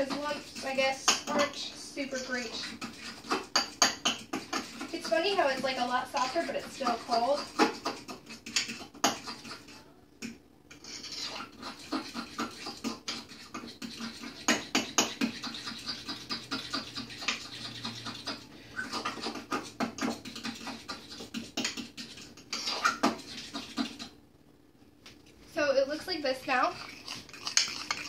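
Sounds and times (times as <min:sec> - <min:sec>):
fork scraping bowl: 0:00.0 - 0:24.2, 0:26.5 - 0:28.0.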